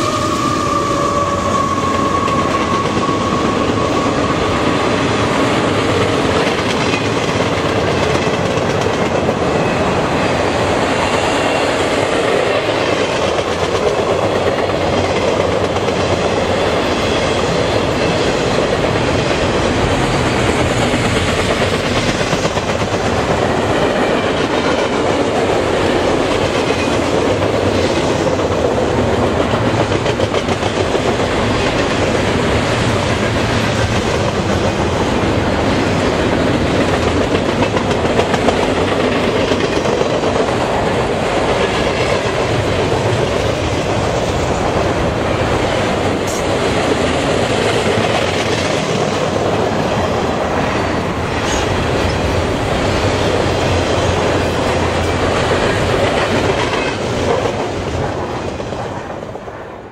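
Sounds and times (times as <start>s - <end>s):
steel wheels running on rails: 0.0s - 59.5s.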